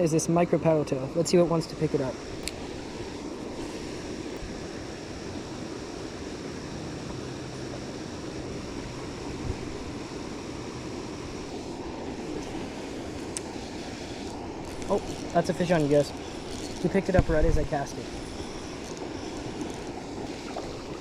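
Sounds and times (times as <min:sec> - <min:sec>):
faint high whine: 0:00.0 - 0:21.0
wind on microphone: 0:01.1 - 0:21.0.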